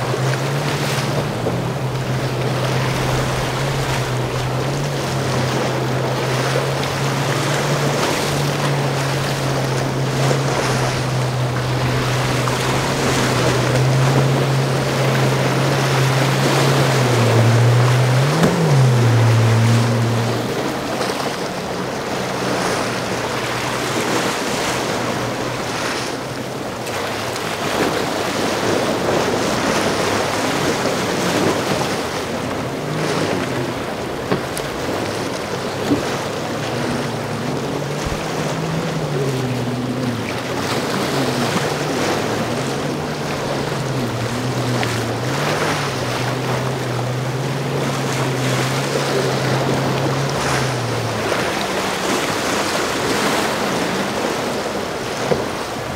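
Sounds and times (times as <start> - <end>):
boat engines droning: 0.0 - 55.9
surf breaking: 0.0 - 55.9
wind on microphone: 0.0 - 55.9.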